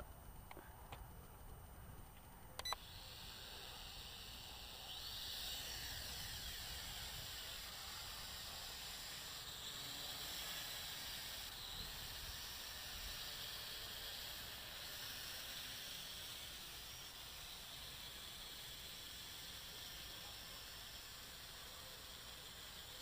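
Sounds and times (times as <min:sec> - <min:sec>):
toy drone propellers whirring: 0:00.0 - 0:23.0.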